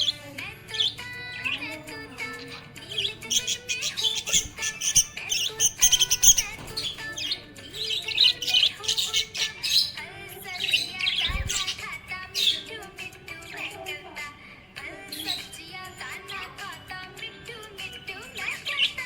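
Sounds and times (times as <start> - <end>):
budgerigars chirping and warbling: 0.0 - 14.0, 15.0 - 16.4, 17.9 - 19.0.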